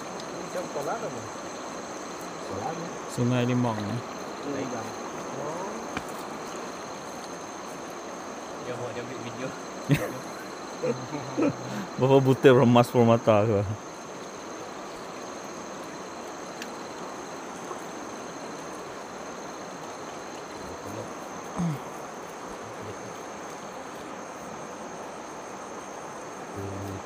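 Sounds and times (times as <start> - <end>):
insect drone: 0.0 - 27.0
river water flowing: 0.0 - 27.0.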